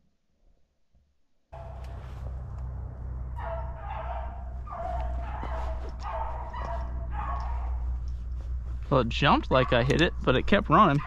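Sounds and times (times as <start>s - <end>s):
dogs baying: 1.6s - 11.0s.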